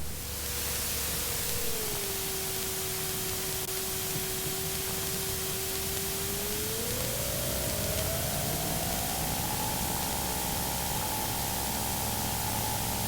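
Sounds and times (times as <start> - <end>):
faint aircraft engine hum: 0.0 - 13.0.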